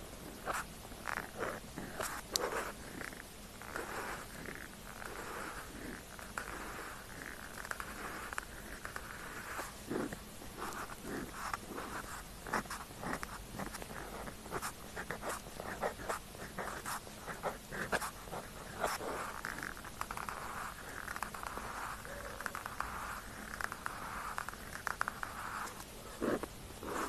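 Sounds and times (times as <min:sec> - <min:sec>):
pen scratching on paper: 0:00.3 - 0:27.0.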